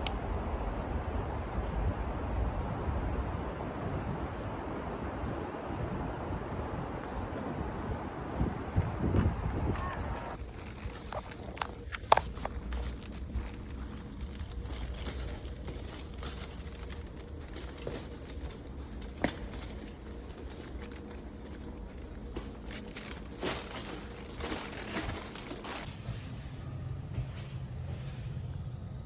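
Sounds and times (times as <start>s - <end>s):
crinkling and rustling: 0.0s - 26.4s
low hum: 0.0s - 29.0s.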